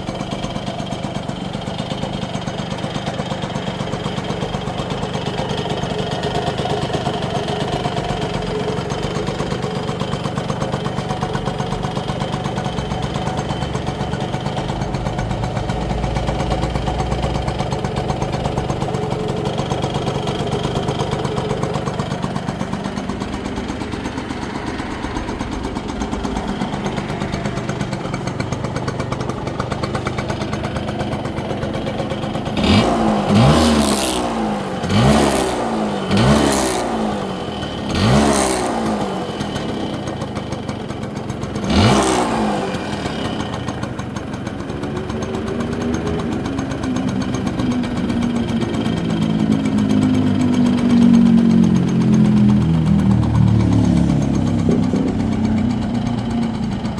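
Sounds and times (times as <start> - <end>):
two-stroke motorcycle engine revving: 0.0 - 56.9.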